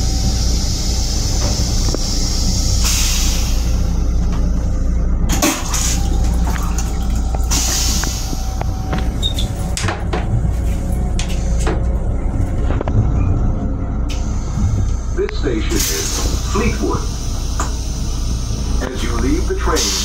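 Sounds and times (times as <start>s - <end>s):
train car low rumble: 0.0s - 20.0s.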